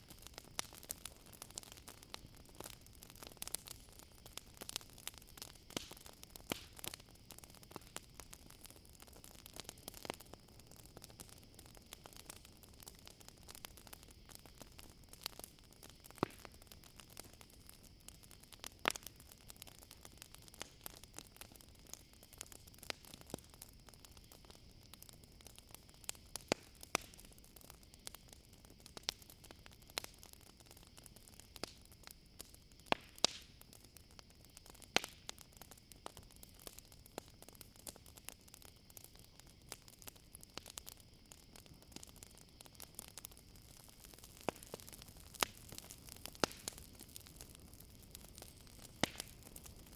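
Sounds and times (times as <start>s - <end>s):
campfire crackling and popping: 0.0s - 49.9s
crickets trilling: 0.0s - 49.9s.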